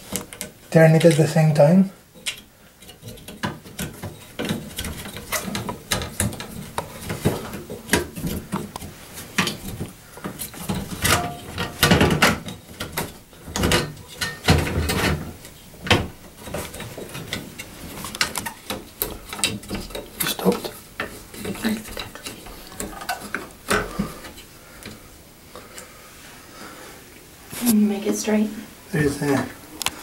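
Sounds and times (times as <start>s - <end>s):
fan parts clicking and scraping: 0.0s - 28.4s, 29.0s - 30.0s.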